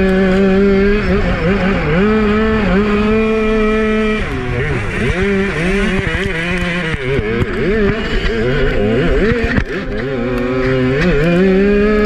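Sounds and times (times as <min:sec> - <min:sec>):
kart engine revving: 0:00.0 - 0:12.0.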